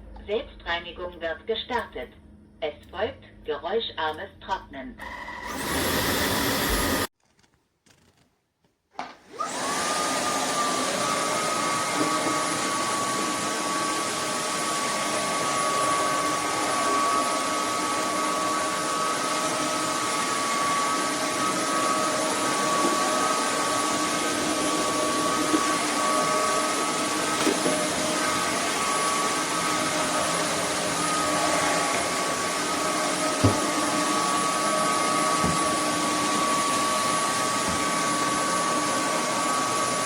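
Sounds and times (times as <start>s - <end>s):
vacuum motor whining: 5.0s - 7.1s, 9.3s - 40.0s.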